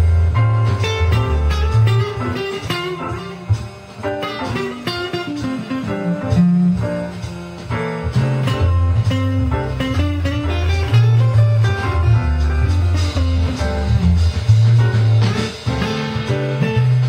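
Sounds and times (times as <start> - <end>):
backing track with bass line: 0.0 - 17.0
bluesy electric guitar notes: 0.0 - 17.0.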